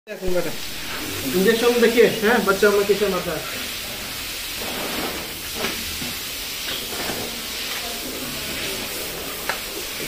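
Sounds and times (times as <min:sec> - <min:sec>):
steady background hiss: 0:00.1 - 0:10.0.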